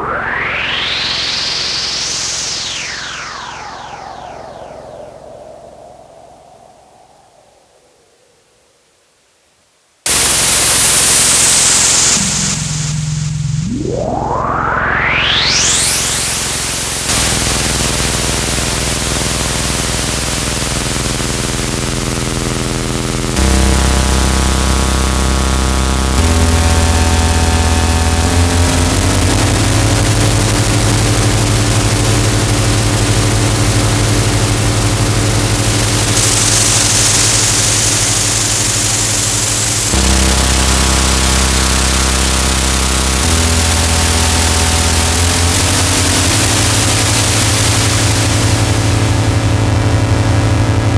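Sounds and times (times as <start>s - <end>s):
synthesizer white noise: 0.0s - 8.3s, 10.1s - 50.9s
low synthesizer drone tones: 10.1s - 50.9s.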